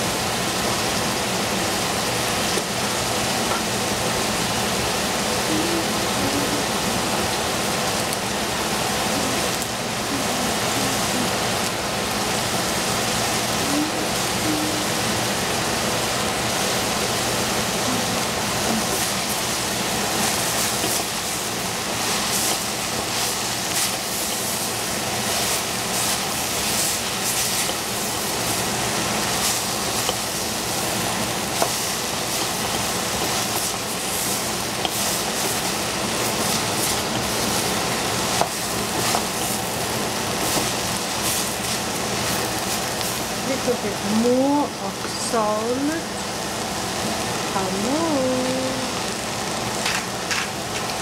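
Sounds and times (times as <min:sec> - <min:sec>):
food sizzling in hot oil: 0:00.0 - 0:51.0.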